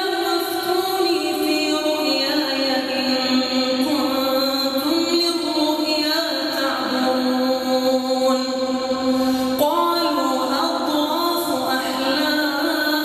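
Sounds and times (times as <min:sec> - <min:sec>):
person chanting a recitation: 0:00.0 - 0:13.0.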